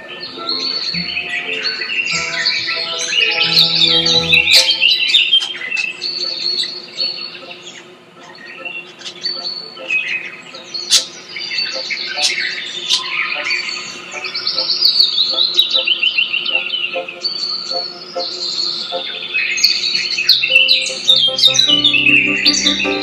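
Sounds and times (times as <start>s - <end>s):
songbirds chirping and singing: 0.0s - 23.0s.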